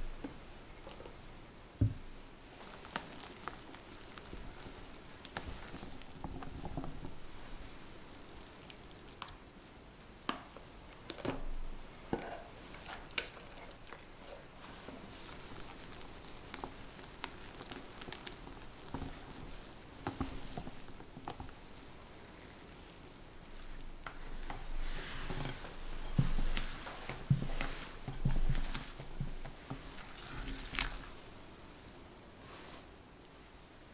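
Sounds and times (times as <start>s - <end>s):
whisk squishing batter: 2.0s - 9.6s, 10.3s - 31.4s
spatula scraping batter: 2.5s - 9.2s, 10.9s - 31.4s.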